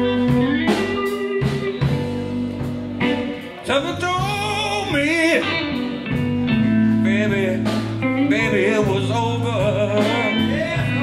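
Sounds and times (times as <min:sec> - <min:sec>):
bending electric guitar lead: 0:00.0 - 0:11.0
blues band playing: 0:00.0 - 0:11.0.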